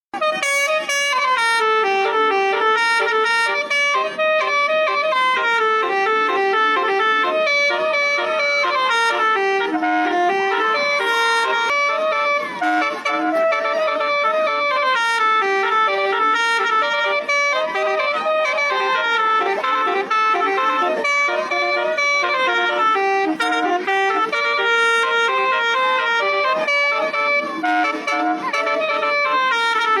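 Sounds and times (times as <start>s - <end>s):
bus air horns playing a tune: 0.1s - 30.0s.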